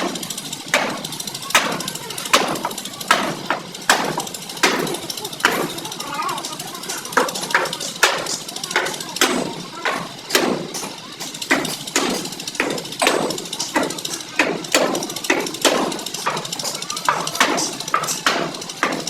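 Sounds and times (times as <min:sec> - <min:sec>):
hammer blows on sheet metal: 0:00.0 - 0:05.9, 0:07.1 - 0:19.0.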